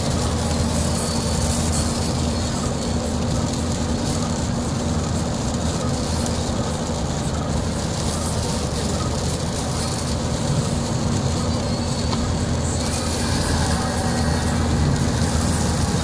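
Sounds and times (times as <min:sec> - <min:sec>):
heavy rain: 0:00.0 - 0:16.0
wind: 0:00.0 - 0:16.0.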